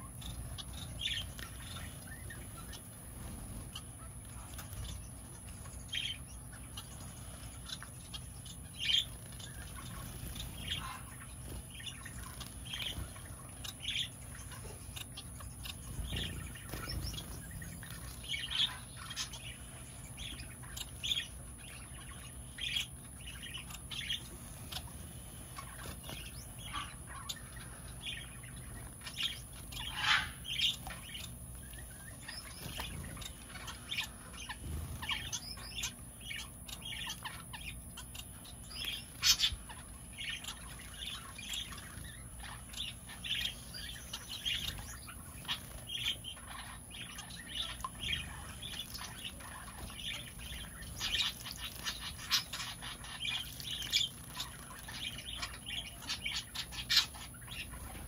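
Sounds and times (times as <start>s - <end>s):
finches and parakeets chirping: 0.0s - 58.0s.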